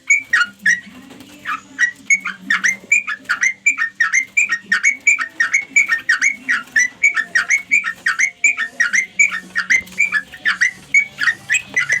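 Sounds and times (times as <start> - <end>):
bird bubbling chirps: 0.0 - 12.0.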